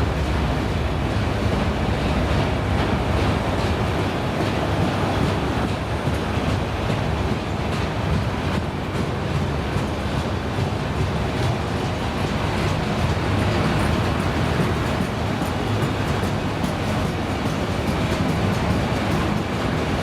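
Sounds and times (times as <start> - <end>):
rail joint clicks: 0.0 - 20.0
train wheels on rails: 0.0 - 20.0.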